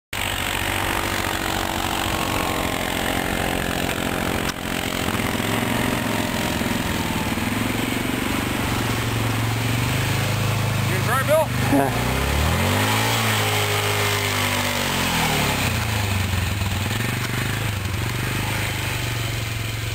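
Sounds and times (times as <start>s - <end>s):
atv engine running: 0.2s - 19.9s.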